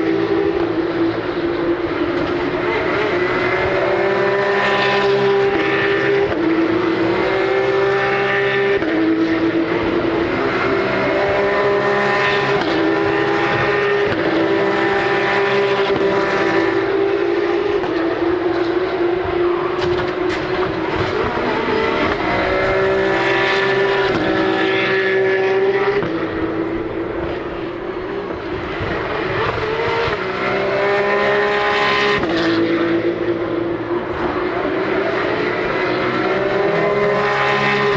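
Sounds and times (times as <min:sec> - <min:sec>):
diesel truck engines racing: 0:00.0 - 0:37.9.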